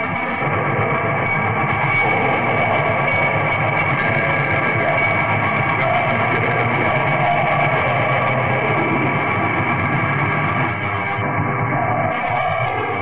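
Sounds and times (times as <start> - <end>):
distorted guitar: 0.0 - 13.0.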